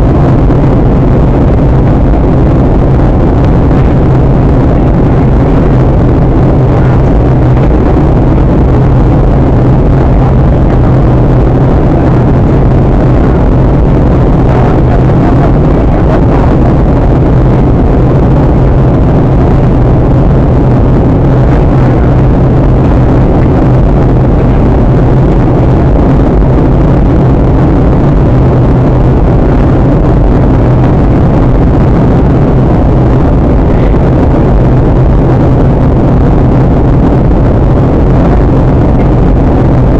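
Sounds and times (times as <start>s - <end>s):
airplane cabin jet engine noise: 0.0s - 39.9s
constant low hum: 0.0s - 39.9s.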